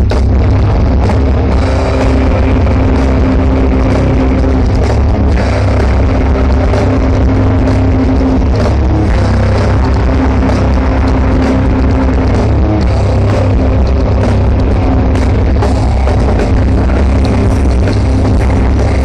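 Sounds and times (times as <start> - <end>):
live heavy metal band: 0.0 - 19.0.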